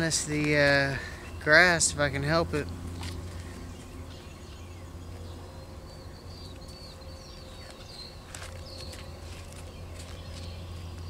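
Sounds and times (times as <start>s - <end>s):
bird chirping: 0.0s - 11.0s
low background rumble: 0.0s - 11.0s.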